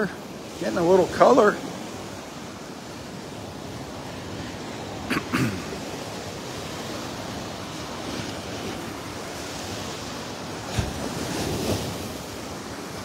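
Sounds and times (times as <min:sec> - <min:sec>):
waves washing up a beach: 0:00.0 - 0:13.0.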